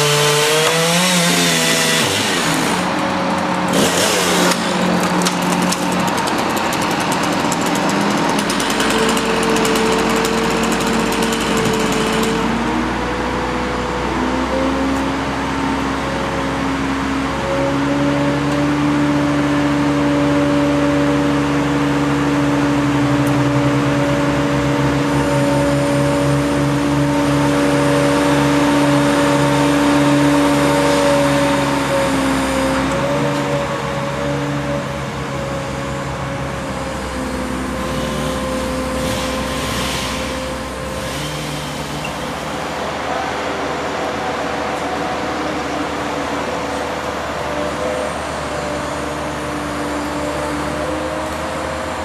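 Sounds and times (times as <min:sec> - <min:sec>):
engine drone: 0:00.0 - 0:52.0
hydraulic whine: 0:00.0 - 0:52.0.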